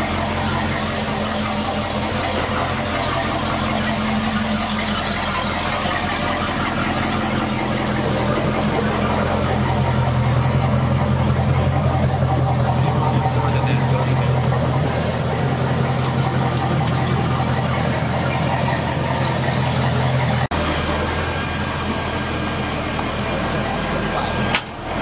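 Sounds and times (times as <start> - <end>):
boat engine idling: 0.0 - 25.0.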